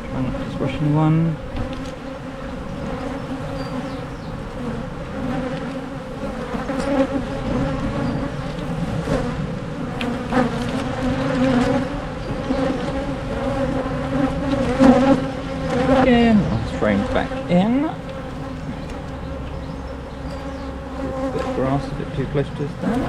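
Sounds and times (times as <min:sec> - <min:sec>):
bees buzzing: 0:00.0 - 0:23.0
hive frames knocking: 0:00.0 - 0:23.0.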